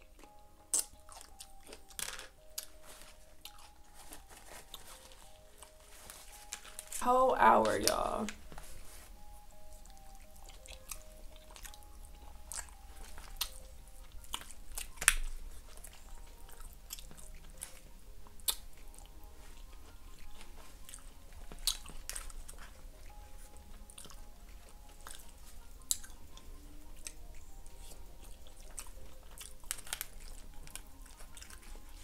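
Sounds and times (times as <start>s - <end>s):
close chewing of food: 0.0s - 32.0s
quiet background music: 0.0s - 32.0s.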